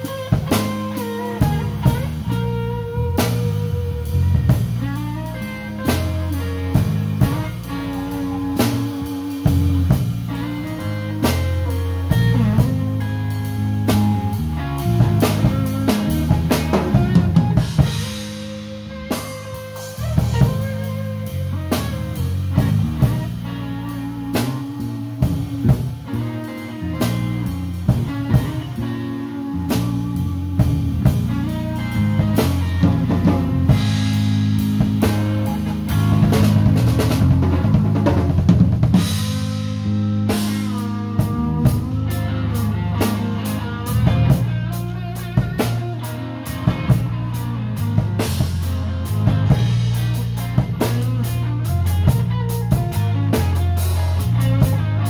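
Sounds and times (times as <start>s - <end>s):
electric guitar: 0.0s - 55.0s
live rock band playing: 0.0s - 55.0s
snare and bass drum: 0.1s - 23.4s, 29.7s - 39.6s, 43.0s - 55.0s.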